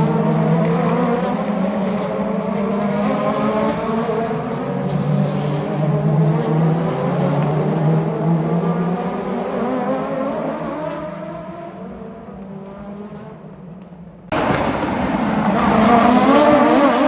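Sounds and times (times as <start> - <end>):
race car engine drone: 0.0 - 17.0.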